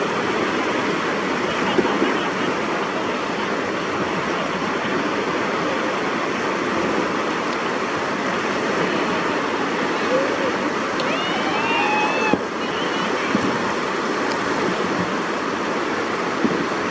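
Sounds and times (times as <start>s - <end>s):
river rapids rushing: 0.0s - 16.9s.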